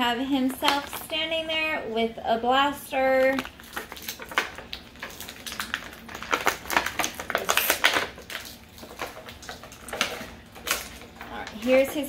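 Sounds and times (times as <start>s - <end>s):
plastic packaging crinkling: 0.2s - 1.6s, 2.9s - 12.0s.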